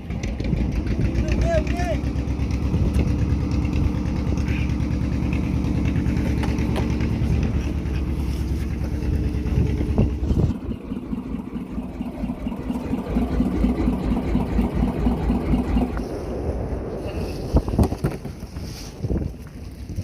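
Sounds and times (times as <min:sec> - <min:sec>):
boat motor running: 0:00.0 - 0:18.5.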